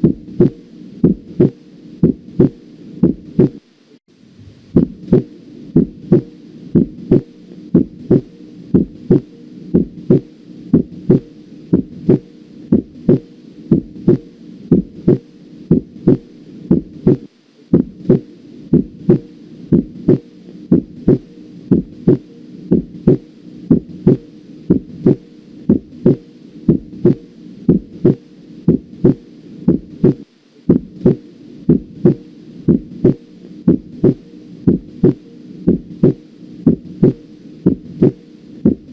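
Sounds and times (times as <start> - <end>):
heartbeat lub-dub: 0.0 - 3.6, 4.3 - 38.9.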